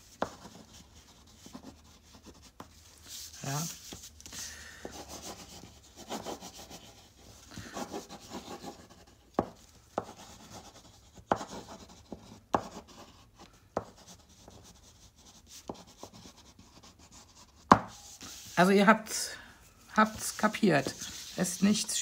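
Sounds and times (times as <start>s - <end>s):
crayon scribbling on paper: 0.0s - 4.1s, 4.8s - 19.0s, 20.0s - 22.0s.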